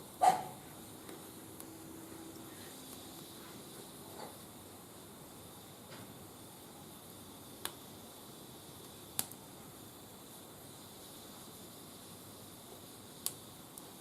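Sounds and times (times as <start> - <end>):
low hiss of fire: 0.0 - 14.0
wood fire popping: 0.0 - 14.0.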